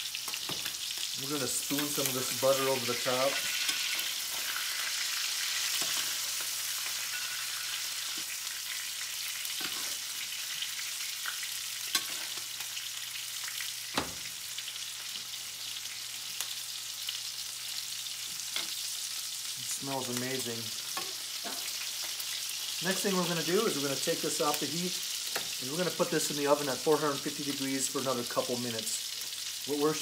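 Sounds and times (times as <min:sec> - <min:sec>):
steaks sizzling in a skillet: 0:00.0 - 0:30.0.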